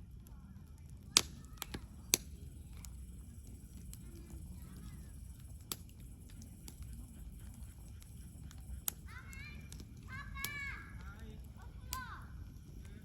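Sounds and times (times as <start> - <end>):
campfire crackling: 0.0 - 13.0
low steady rumble: 0.0 - 13.0.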